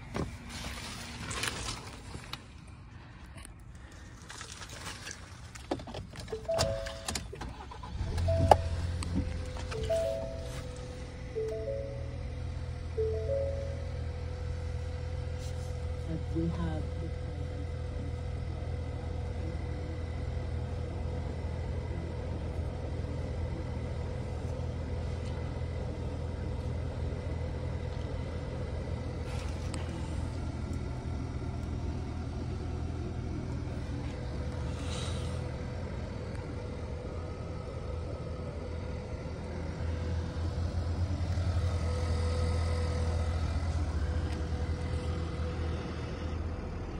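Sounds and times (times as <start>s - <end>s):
pickup engine idling: 5.3s - 46.9s
faint steady whine: 6.2s - 46.9s.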